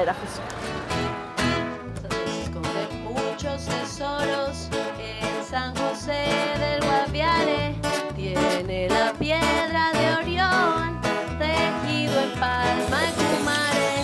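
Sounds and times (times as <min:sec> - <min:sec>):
plucked string instruments: 0:00.0 - 0:14.0.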